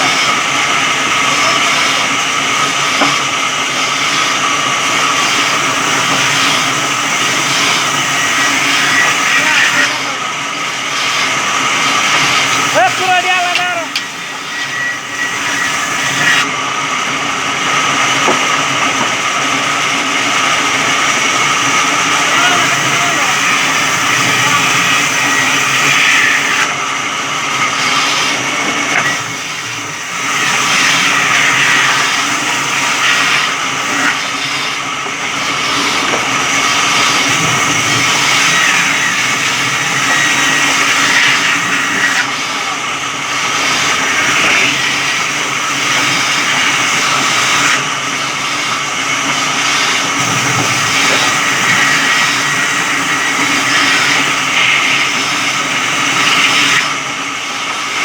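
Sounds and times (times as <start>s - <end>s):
saw blade rasping through wood: 0.0s - 16.5s, 19.8s - 58.0s
sawmill drone: 0.0s - 58.0s.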